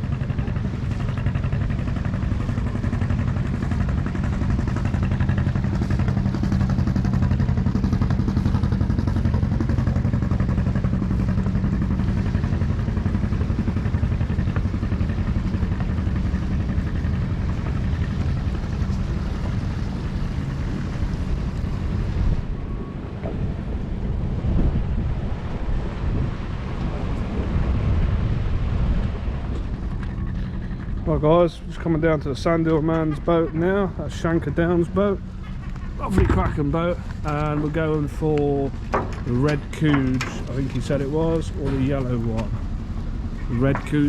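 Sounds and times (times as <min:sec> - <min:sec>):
boat engine humming: 0:00.0 - 0:44.0
water noise: 0:00.0 - 0:44.0
wind: 0:00.0 - 0:44.0.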